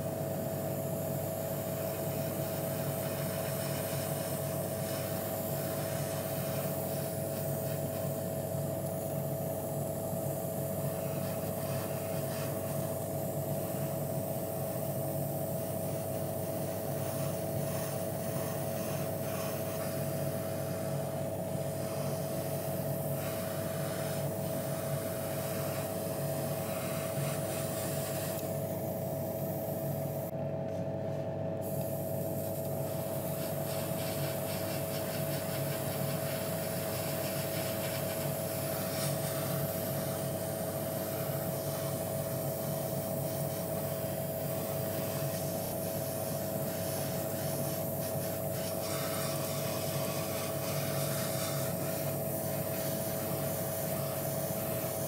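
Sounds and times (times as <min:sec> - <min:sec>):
airbrush hissing: 0:00.0 - 0:30.3, 0:31.6 - 0:55.0
air compressor humming: 0:00.0 - 0:55.0.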